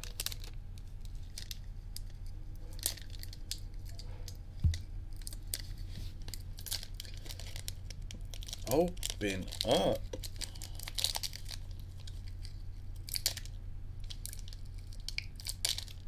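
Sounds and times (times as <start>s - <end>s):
foil wrapper crinkling and tearing: 0.0s - 16.0s
steady low hum: 0.0s - 16.0s.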